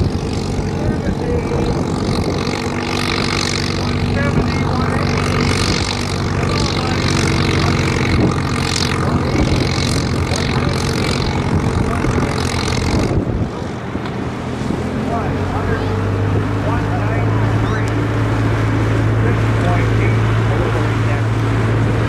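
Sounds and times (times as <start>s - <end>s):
tractor engine under load: 0.0s - 22.0s.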